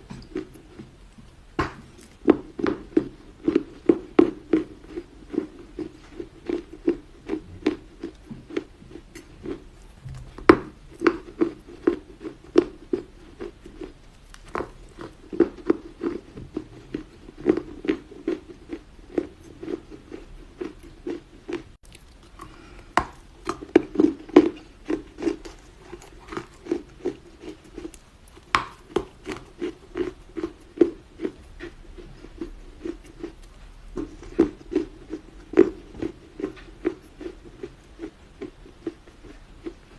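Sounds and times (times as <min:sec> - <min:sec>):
clay being bitten and chewed: 0:00.0 - 0:39.9.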